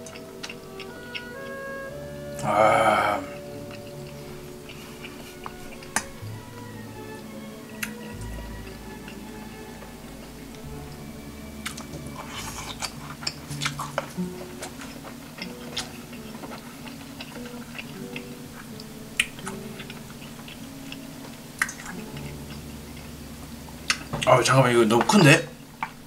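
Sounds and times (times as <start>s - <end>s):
person chewing food: 0.0s - 24.3s
quiet background music: 0.0s - 26.0s.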